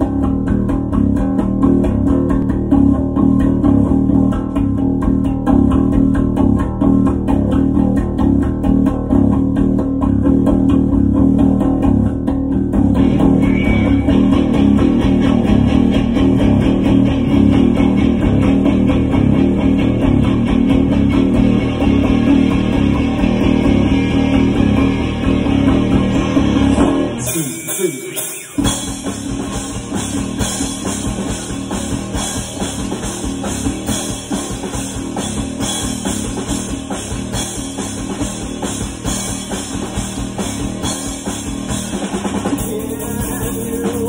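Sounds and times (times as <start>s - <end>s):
bass guitar: 0.0s - 44.0s
drums: 0.0s - 44.0s
electric guitar: 0.0s - 44.0s.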